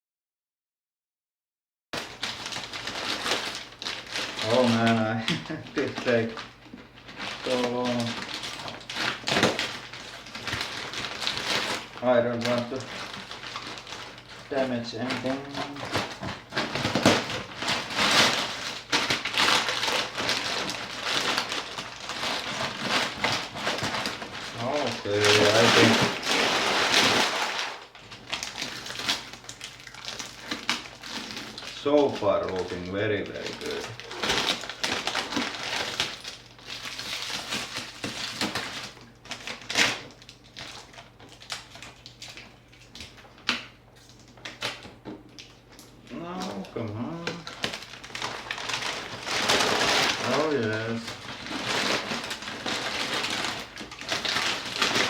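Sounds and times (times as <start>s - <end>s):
packing material rustling: 2.0s - 55.0s.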